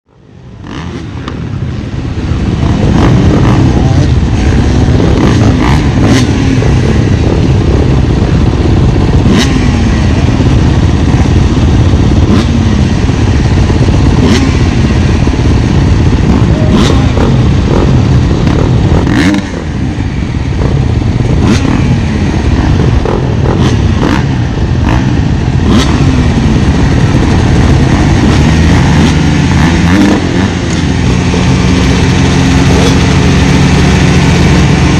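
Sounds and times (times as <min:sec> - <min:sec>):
dirt bike engine revving: 0:00.5 - 0:34.9.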